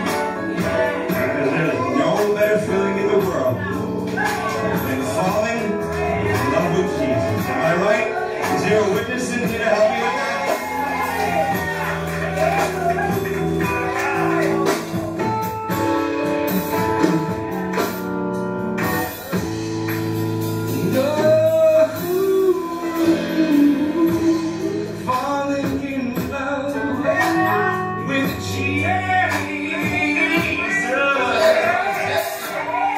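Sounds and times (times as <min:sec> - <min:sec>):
man singing: 0:00.0 - 0:14.9, 0:20.6 - 0:32.9
band playing: 0:00.0 - 0:32.9
sustained keyboard chords: 0:00.0 - 0:32.9.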